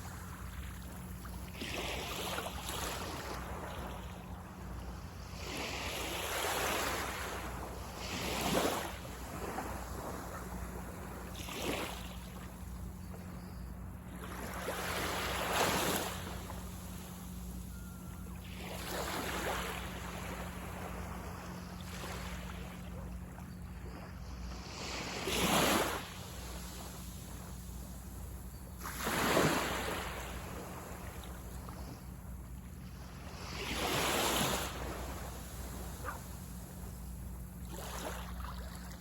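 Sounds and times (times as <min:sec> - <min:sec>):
waves breaking on beach: 0:00.0 - 0:13.5, 0:14.1 - 0:39.0.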